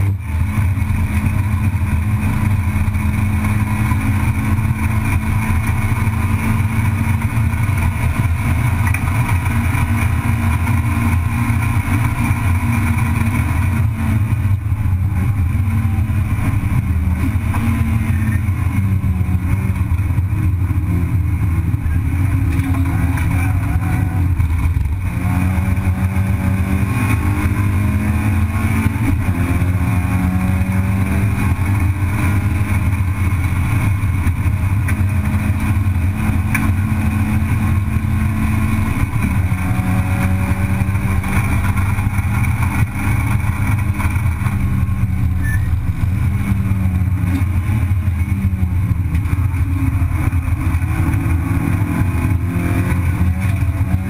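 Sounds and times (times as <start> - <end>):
racing car engine at high revs: 0.0 - 54.0
road and wind noise: 0.0 - 54.0.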